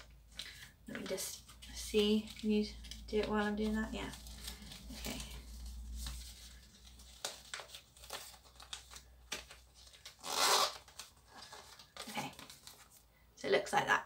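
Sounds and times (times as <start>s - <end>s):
glossy paper crinkling: 0.0s - 13.1s.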